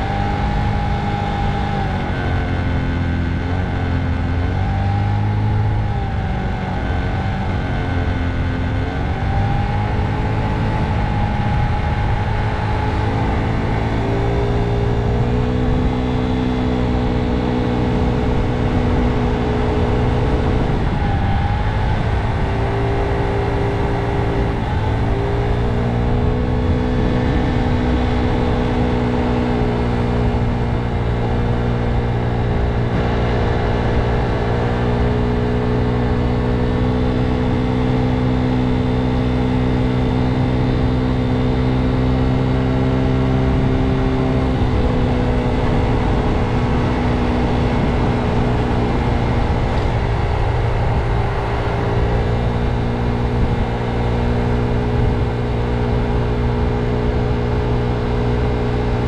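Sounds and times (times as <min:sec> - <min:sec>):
motor scooter engine: 0:00.0 - 0:59.0.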